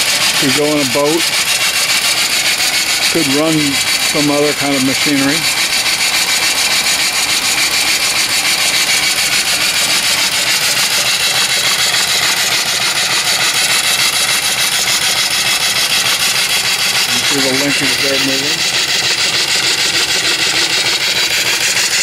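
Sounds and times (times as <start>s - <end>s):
steam engine exhaust puffing: 0.0s - 22.0s.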